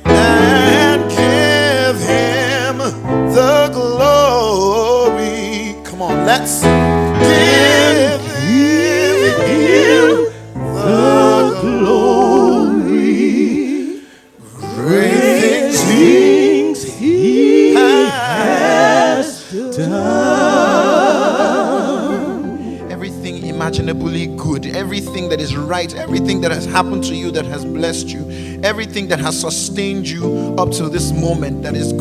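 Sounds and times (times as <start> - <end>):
gospel singing: 0.0 - 32.0.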